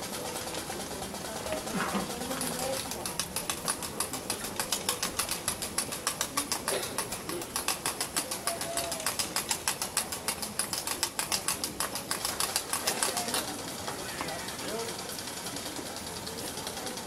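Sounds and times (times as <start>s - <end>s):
rapid even clacking: 0.0s - 17.0s.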